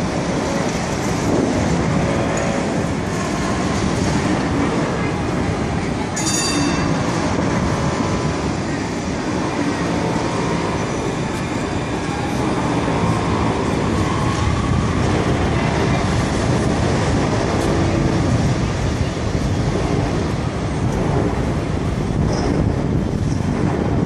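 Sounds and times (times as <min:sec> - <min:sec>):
tram wheel and motor noise: 0:00.0 - 0:24.0.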